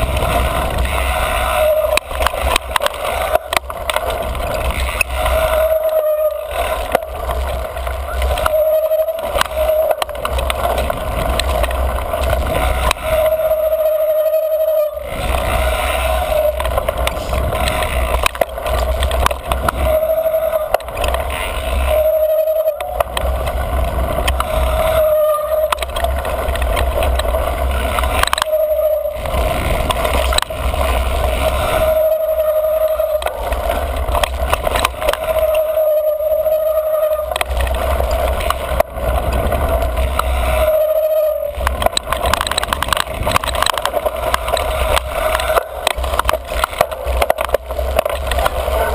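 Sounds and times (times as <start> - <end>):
bike brake squealing: 0.0 - 48.9
bike tyres on dirt trail: 0.0 - 48.9
wind rumbling on microphone: 0.0 - 48.9.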